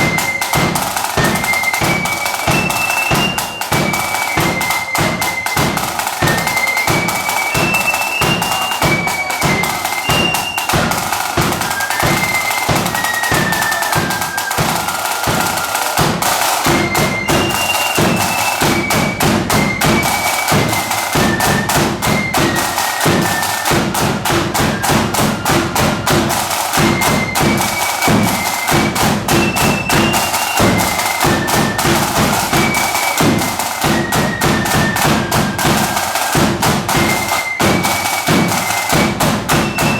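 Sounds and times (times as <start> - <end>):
flute melody: 0.0 - 39.9
rapid snare drumming: 0.0 - 39.9.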